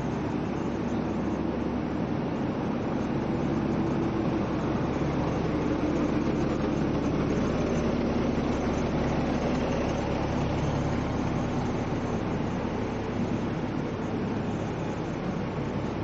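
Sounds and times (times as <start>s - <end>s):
bus engine humming: 0.0s - 16.0s
road noise: 0.0s - 16.0s.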